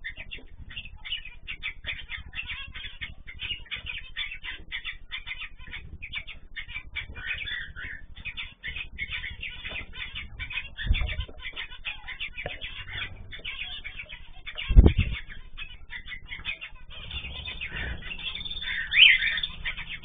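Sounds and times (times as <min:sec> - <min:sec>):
cage birds chirping: 0:00.0 - 0:20.0.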